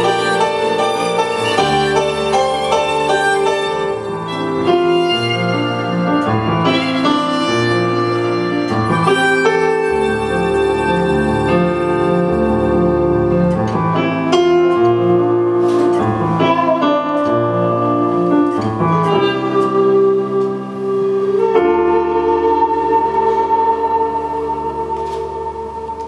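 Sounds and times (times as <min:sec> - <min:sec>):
bowed fiddle slow melody: 0:00.0 - 0:26.0.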